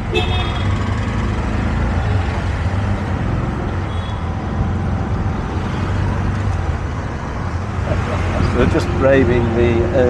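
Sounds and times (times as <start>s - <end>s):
auto-rickshaw engine drone: 0.0s - 10.0s
road and traffic noise: 0.0s - 10.0s.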